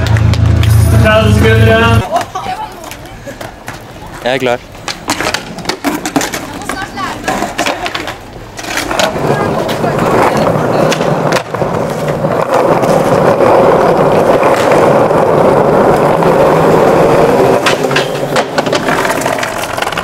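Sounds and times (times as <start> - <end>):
skateboard wheels rolling on stone: 0.0 - 20.0
skateboard clacks and knocks: 2.0 - 20.0.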